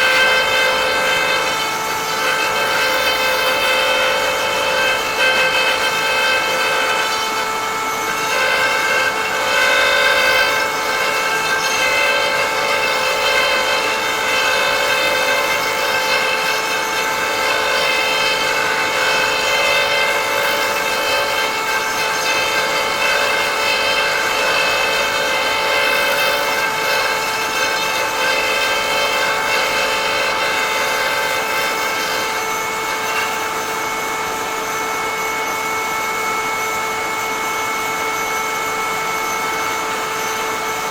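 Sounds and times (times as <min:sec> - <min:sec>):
router whining: 0:00.0 - 0:40.9.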